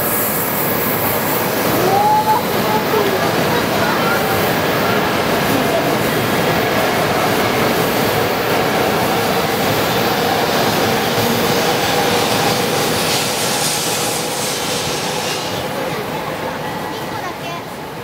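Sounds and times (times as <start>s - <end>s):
train wheels and motors running: 0.0s - 18.0s.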